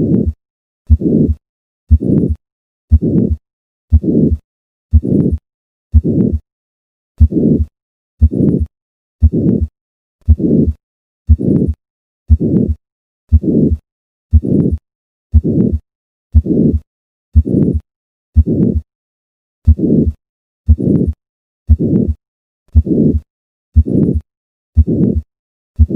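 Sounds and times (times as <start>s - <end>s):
heartbeat through stethoscope: 0.0s - 6.4s, 7.2s - 18.9s, 19.6s - 25.9s
systolic heart murmur: 0.0s - 6.4s, 7.2s - 18.9s, 19.6s - 25.9s.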